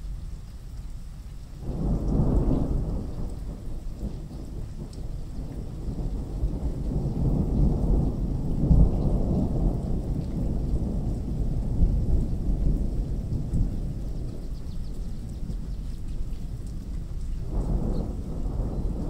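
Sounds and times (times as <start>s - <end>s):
rain falling: 0.0s - 19.0s
thunder rumbling: 1.6s - 19.0s.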